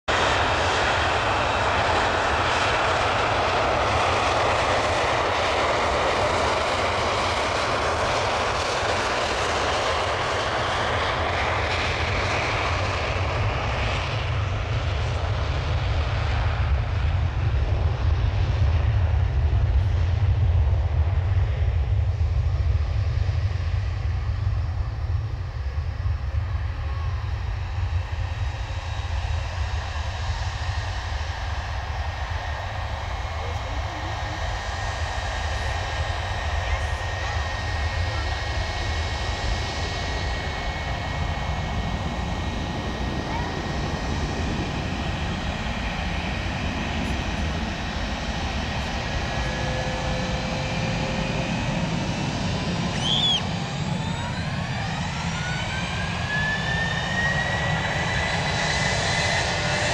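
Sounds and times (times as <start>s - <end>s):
airliner engine roar: 0.0s - 59.9s.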